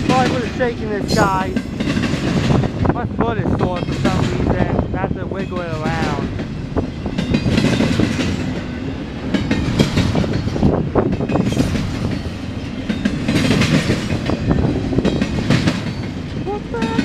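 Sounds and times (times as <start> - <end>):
train wheels clacking over rail joints: 0.0 - 17.0.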